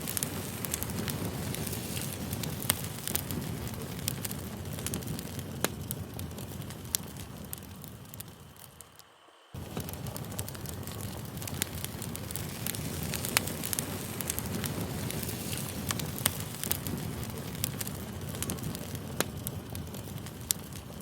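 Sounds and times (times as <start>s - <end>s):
campfire crackling and popping: 0.0s - 21.0s
low fire rumble: 0.0s - 21.0s.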